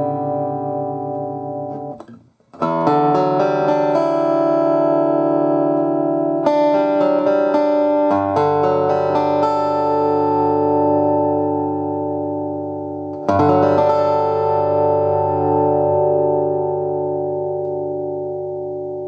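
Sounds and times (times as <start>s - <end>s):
amplified electric guitar: 0.0s - 19.0s.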